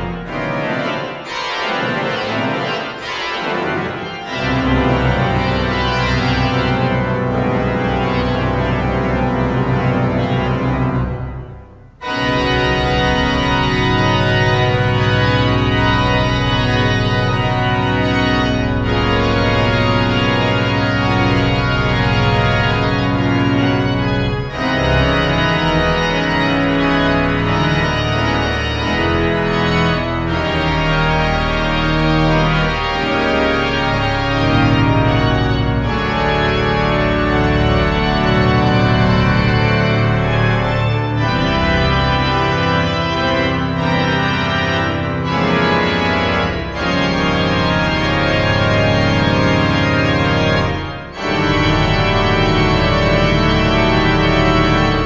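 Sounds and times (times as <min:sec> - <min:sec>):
pipe organ chords: 0:00.0 - 0:55.0.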